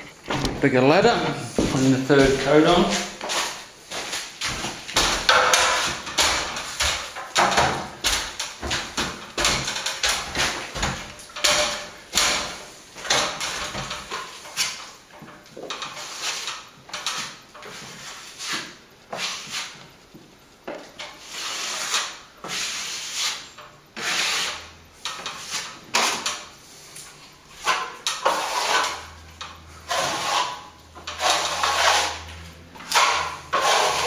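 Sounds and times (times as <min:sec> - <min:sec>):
trowel scraping plaster: 0:01.4 - 0:15.0, 0:15.7 - 0:19.8, 0:21.0 - 0:34.0.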